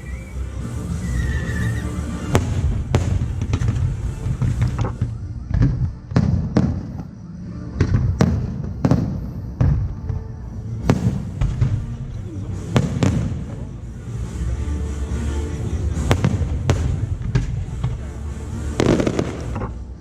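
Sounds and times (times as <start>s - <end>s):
fireworks bursting: 1.0s - 7.2s, 7.8s - 14.5s, 15.8s - 20.0s
steady low rumble: 2.0s - 20.0s.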